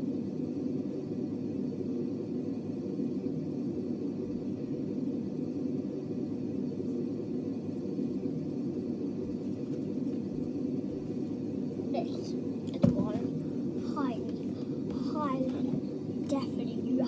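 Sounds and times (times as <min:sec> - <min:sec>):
steady low rumbling: 0:00.0 - 0:17.0.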